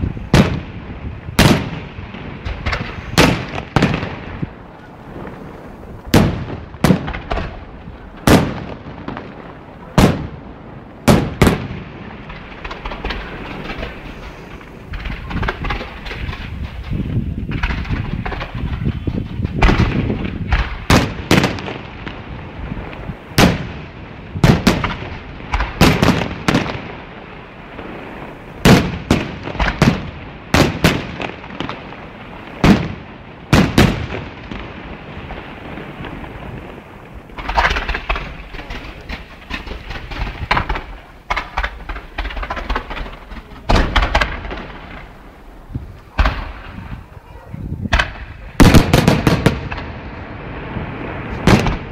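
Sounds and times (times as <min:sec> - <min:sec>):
fireworks bangs: 0:00.0 - 0:51.9.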